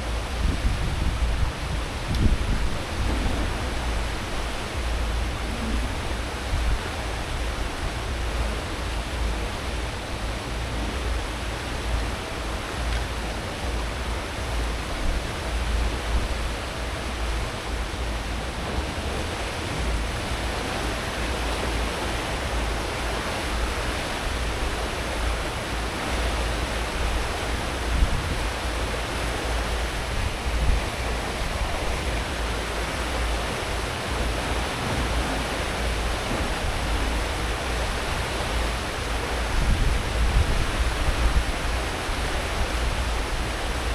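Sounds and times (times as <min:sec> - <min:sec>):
low ship engine rumble: 0:00.0 - 0:43.9
ship wake water rushing: 0:00.0 - 0:43.9.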